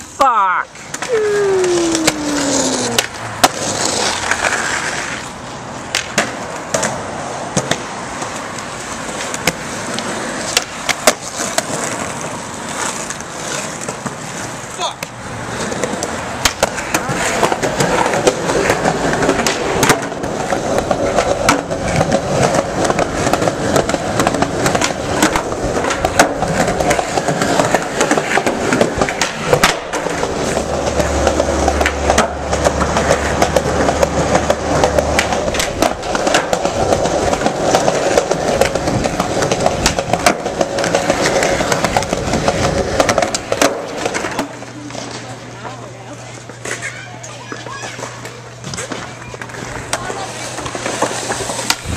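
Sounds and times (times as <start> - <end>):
skateboard clacks: 0.0 - 51.9
skateboard wheels rolling on concrete: 0.0 - 51.9.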